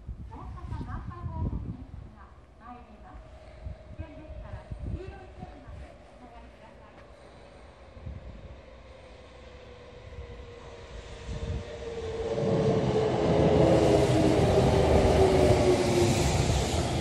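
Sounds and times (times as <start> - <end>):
train wheels rumbling on rails: 3.2 - 17.0.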